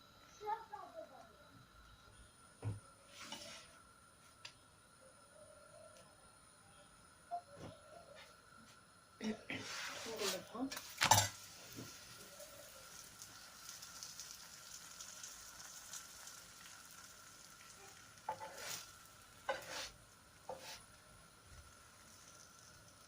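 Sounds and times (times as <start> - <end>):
pastry sizzling on griddle: 0.0 - 4.6, 8.6 - 23.0.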